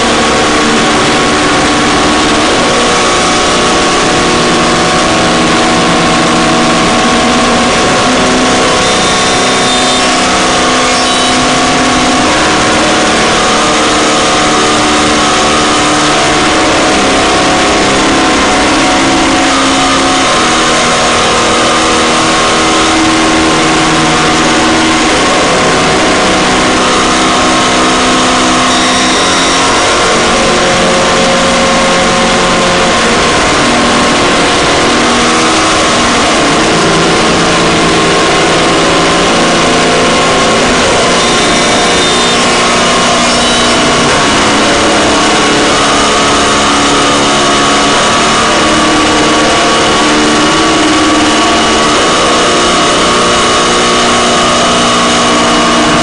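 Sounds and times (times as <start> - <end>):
harsh noise drone music: 0.0 - 56.0.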